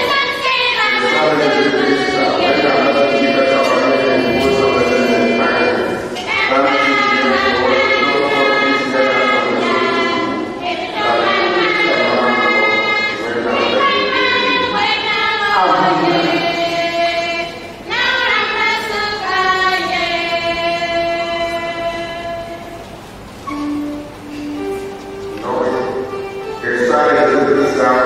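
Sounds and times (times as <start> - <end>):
choir singing: 0.0 - 22.8, 23.5 - 28.0.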